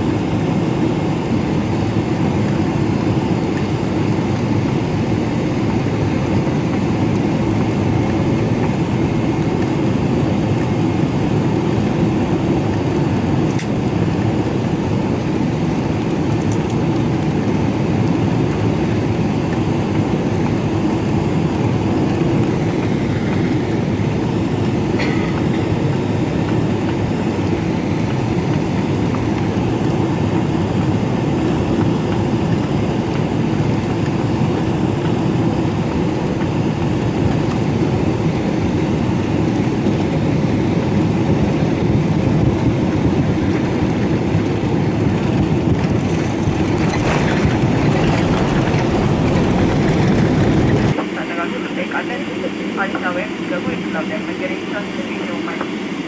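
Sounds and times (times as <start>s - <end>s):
airliner cabin engine noise: 0.0s - 56.0s.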